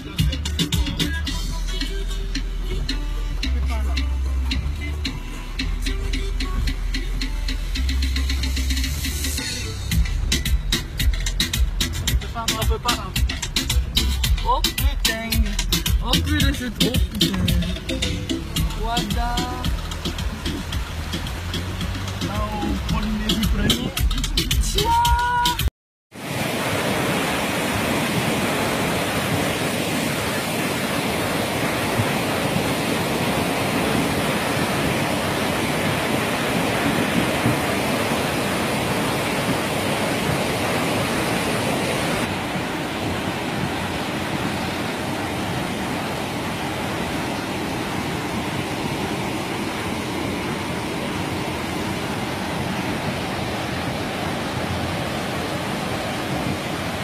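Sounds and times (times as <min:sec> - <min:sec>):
floodwater rushing down road: 0:00.0 - 0:57.0.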